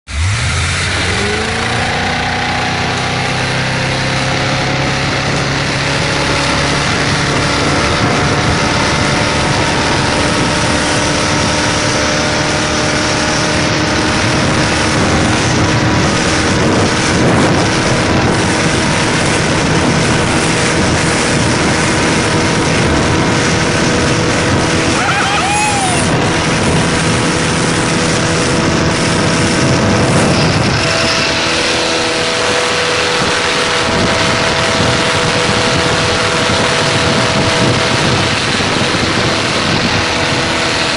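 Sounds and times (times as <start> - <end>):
rushing wind and water: 0.1 - 40.9
speedboat engine: 0.1 - 40.9.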